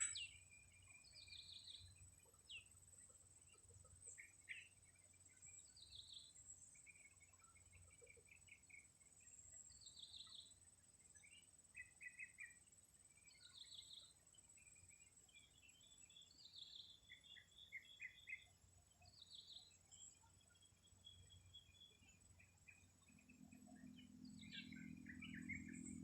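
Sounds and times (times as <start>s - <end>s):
faint birdsong chirps: 0.0s - 26.0s.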